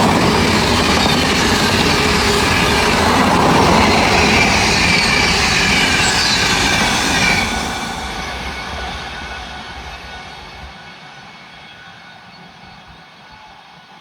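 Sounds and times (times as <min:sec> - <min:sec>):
train passing at speed: 0:00.0 - 0:14.0
wheels squealing on rails: 0:00.0 - 0:14.0.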